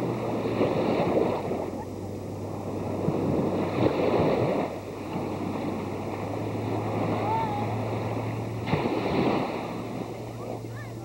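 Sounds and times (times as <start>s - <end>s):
small surf washing: 0.0s - 11.0s
steady low hum: 0.0s - 11.0s
wind on microphone: 0.0s - 11.0s.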